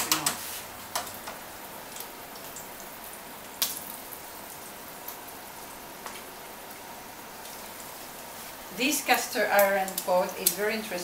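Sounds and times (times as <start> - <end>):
meat sizzling in a frying pan: 0.1 - 11.0.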